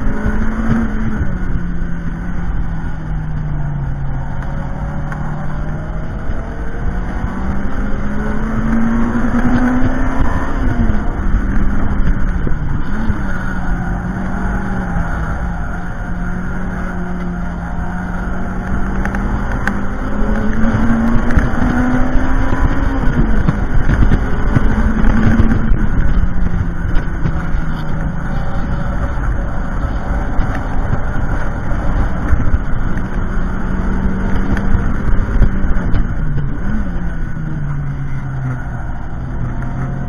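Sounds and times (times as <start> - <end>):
car engine revving: 0.0 - 40.0
road and tyre rumble: 0.0 - 40.0.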